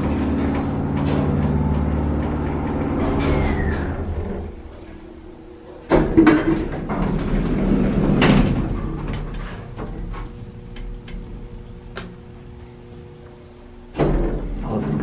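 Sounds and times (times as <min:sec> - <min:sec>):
elevator machinery clunk and rumble: 0:00.0 - 0:15.0
elevator machinery hum: 0:00.0 - 0:15.0.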